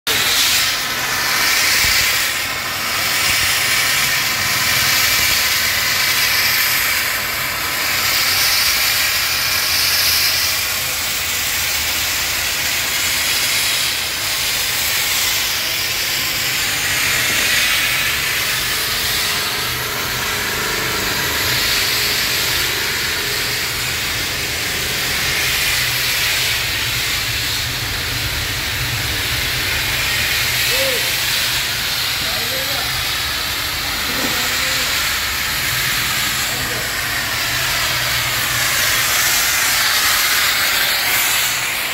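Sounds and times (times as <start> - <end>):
steam hissing from valve: 0.1 - 41.9.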